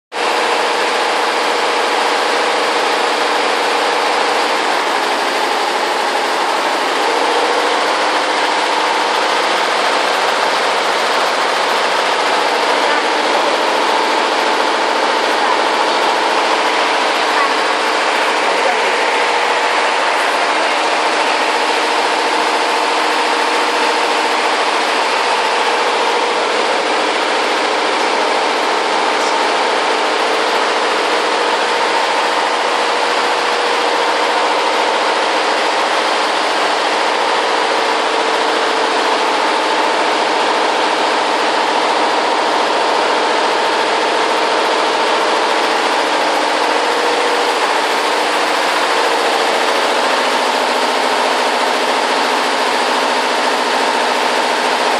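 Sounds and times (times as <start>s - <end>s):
embroidery machine stitching: 0.1s - 54.9s.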